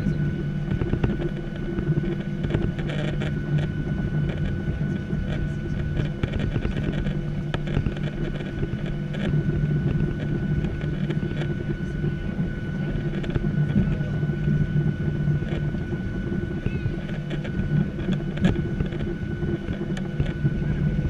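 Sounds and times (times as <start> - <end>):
jet engines humming: 0.0 - 21.0
thin constant whine: 0.0 - 21.0.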